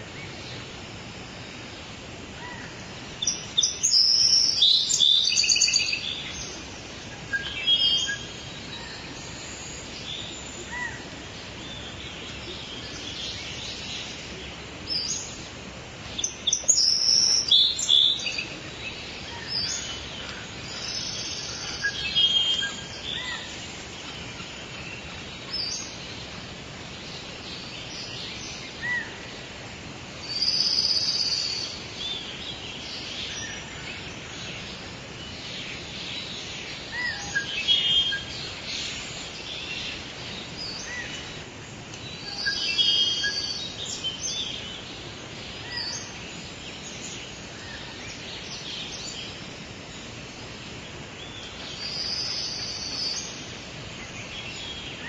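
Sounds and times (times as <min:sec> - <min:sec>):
songbirds chirping and trilling: 0:00.0 - 0:55.0
steady background hiss: 0:00.0 - 0:55.0.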